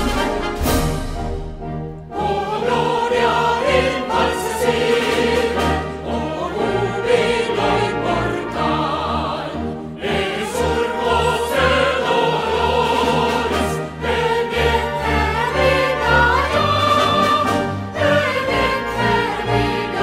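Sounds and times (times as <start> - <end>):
choir singing: 0.0 - 20.0
orchestral music: 0.0 - 20.0.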